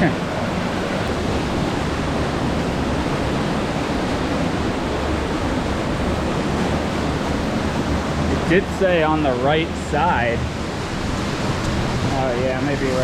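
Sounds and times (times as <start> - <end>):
waterfall pouring: 1.0 - 13.0.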